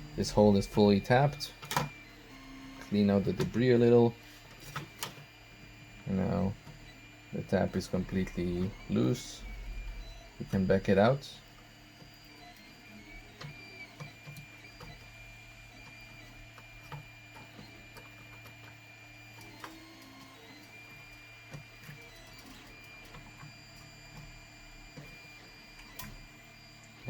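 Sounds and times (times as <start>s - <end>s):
printer motor hum: 0.0s - 27.0s
stepper motor whine: 0.0s - 27.0s.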